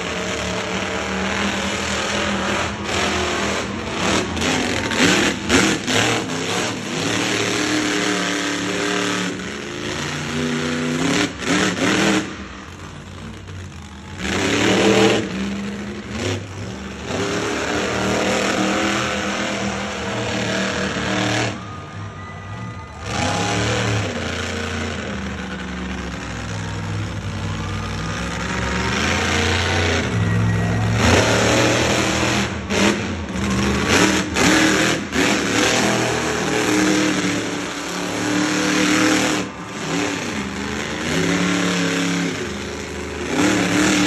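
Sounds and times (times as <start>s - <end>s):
truck engine revving: 0.0s - 44.0s.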